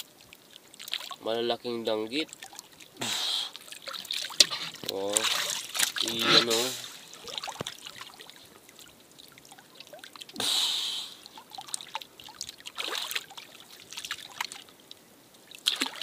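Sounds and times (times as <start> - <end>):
water splash: 0.0 - 1.3, 2.1 - 14.7, 15.5 - 16.0
seawater dripping and trickling: 0.0 - 16.0.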